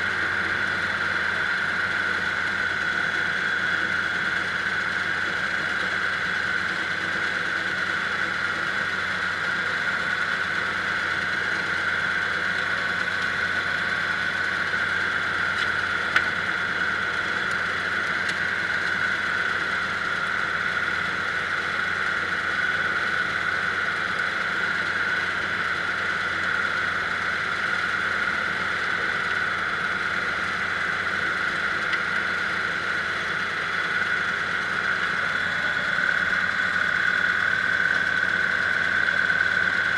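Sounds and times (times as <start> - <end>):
diesel engine running: 0.0 - 39.9
steady high whine: 0.0 - 39.9.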